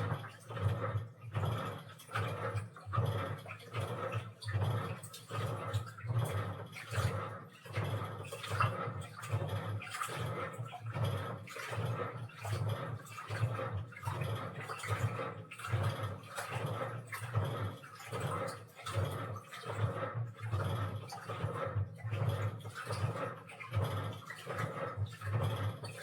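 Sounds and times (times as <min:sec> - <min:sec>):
washing machine sloshing: 0:00.0 - 0:26.0.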